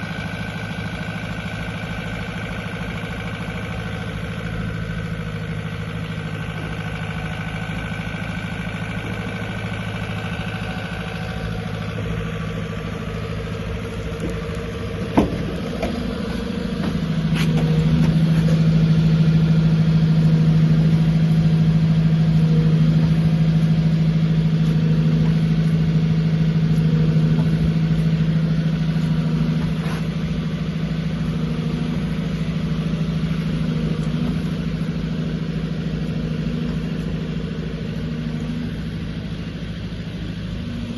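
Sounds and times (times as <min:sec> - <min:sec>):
excavator diesel engine: 0:00.0 - 0:40.9.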